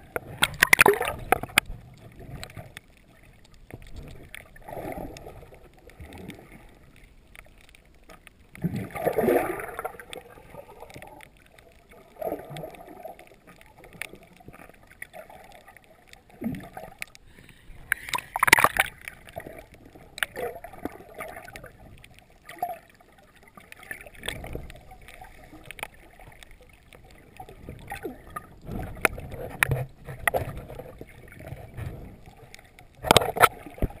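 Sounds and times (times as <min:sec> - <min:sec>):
water sloshing underwater: 0:00.0 - 0:34.0.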